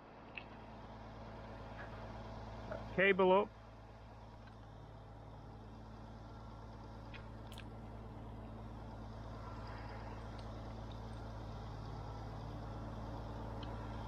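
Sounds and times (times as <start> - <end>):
crane engine running: 0.0 - 14.0.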